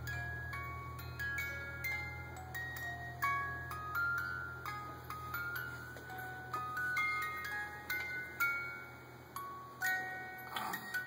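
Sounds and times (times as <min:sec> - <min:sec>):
music box lullaby: 0:00.0 - 0:11.0
steady low hum: 0:00.0 - 0:11.0.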